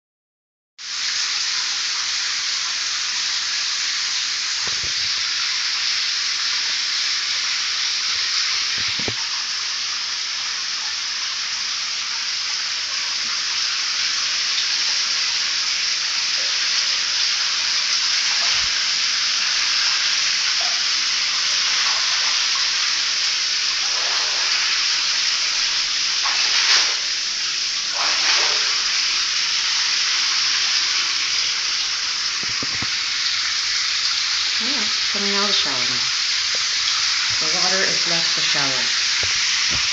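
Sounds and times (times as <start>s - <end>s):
shower spray hissing on tiles: 0.8s - 39.9s
water splashes: 1.0s - 11.0s, 12.1s - 39.9s.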